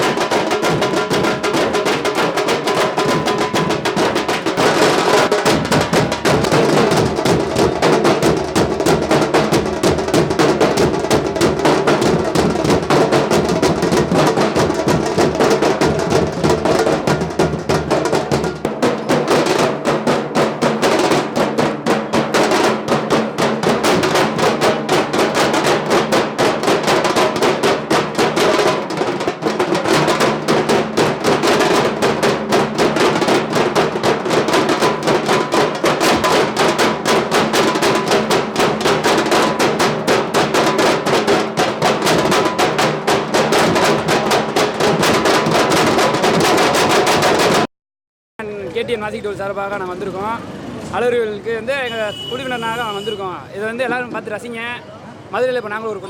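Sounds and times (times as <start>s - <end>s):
deep dhol drum beats: 0.0s - 47.7s
fast rattling tasha drum roll: 0.0s - 47.7s.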